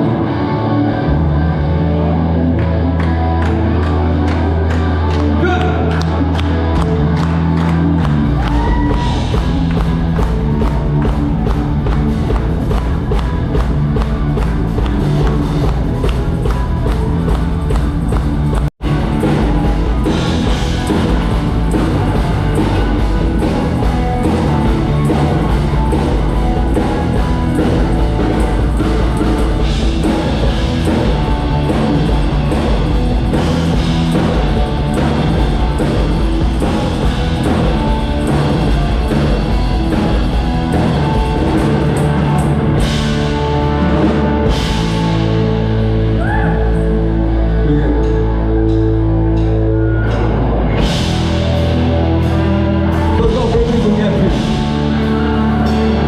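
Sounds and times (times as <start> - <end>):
rock band playing loud: 0.0 - 56.0.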